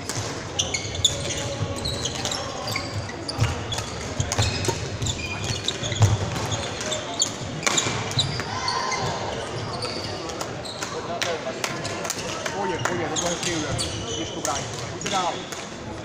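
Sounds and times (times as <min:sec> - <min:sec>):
shoes squeaking on floor: 0:00.0 - 0:11.1, 0:12.2 - 0:15.5
echoing background chatter: 0:00.0 - 0:16.0.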